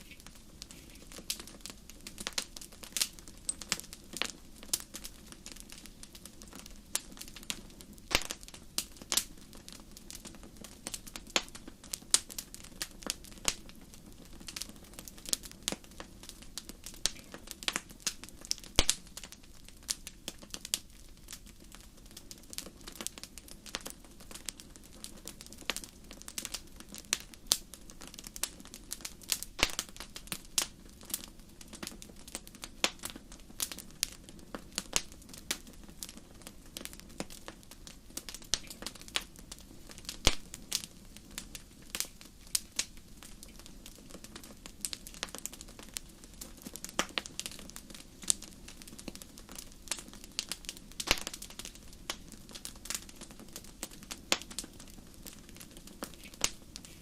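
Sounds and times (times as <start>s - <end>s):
low rush of flames: 0.0s - 57.0s
wood fire crackling and popping: 0.0s - 57.0s.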